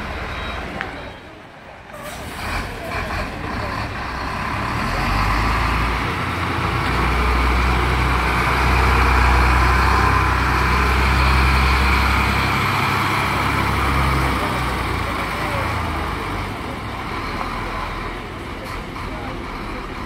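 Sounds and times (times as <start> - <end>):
diesel truck engine humming: 0.0 - 20.0.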